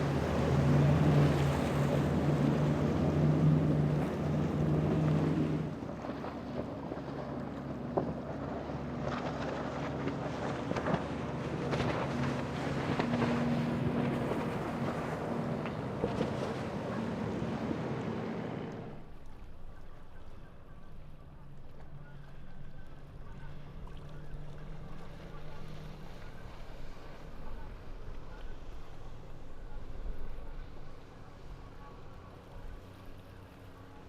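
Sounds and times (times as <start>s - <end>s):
boat engines running: 0.0s - 34.0s
water rushing: 0.0s - 34.0s.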